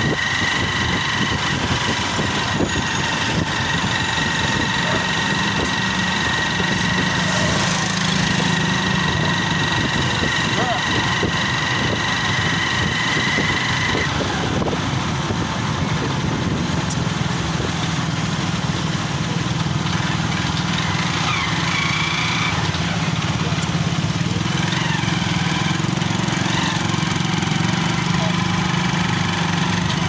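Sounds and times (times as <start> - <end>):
motorcycle engine running: 0.0 - 30.0
other motorcycle engines: 0.0 - 30.0.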